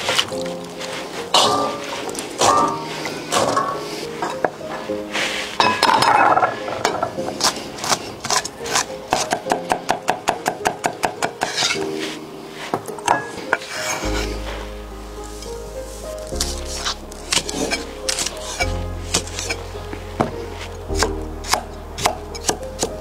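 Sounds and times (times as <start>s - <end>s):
light background music: 0.0s - 23.0s.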